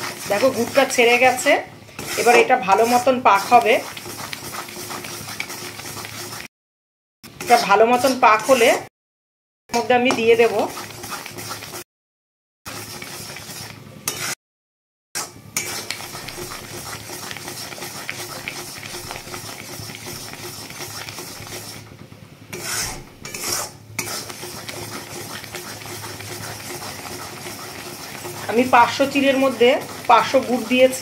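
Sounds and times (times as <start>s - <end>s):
metal spatula scraping metal pan: 0.0s - 6.5s, 7.4s - 8.8s, 9.7s - 11.8s, 12.7s - 14.4s, 15.2s - 21.9s, 22.5s - 31.0s.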